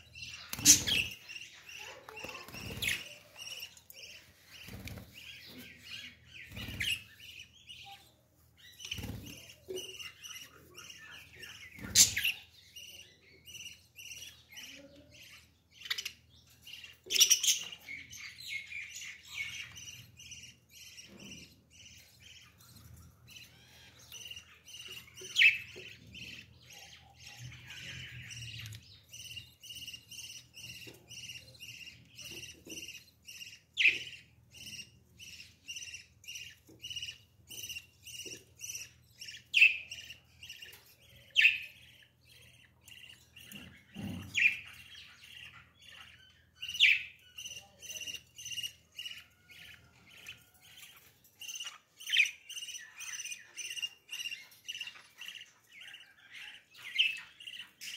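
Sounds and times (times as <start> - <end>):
budgerigars chirping: 0.0 - 57.9.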